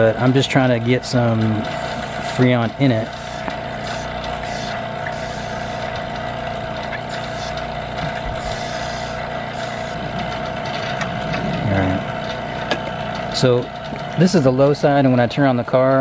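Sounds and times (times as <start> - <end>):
vacuum pump motor hum and whine: 0.0 - 16.0.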